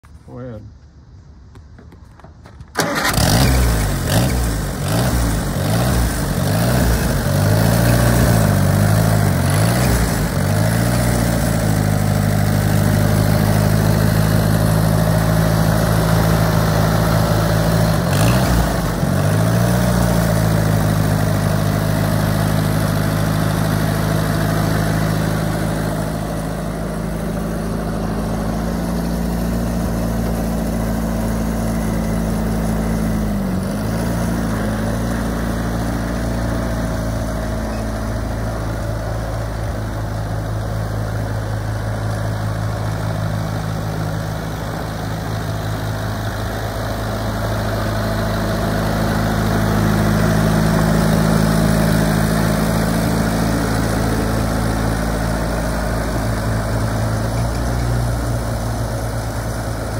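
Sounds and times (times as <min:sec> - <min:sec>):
tractor engine revving and idling: 0:02.6 - 0:59.9.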